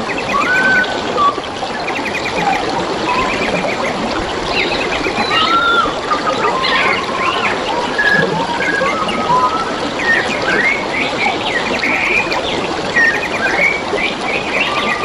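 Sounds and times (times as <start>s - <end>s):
trickling running water: 0.0s - 15.0s
wild birds singing: 0.0s - 15.0s.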